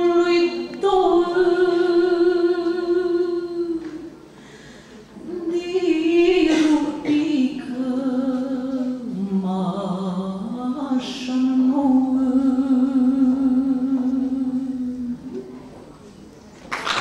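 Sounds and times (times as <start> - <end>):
woman singing unaccompanied folk song: 0.0 - 4.1, 5.2 - 15.3.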